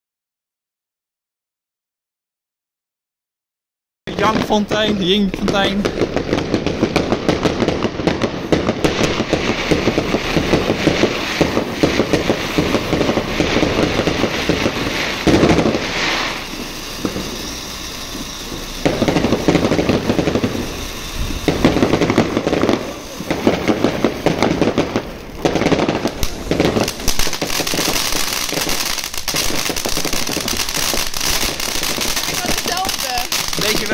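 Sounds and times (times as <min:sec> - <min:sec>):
firework crackling and hissing: 0:04.1 - 0:33.9.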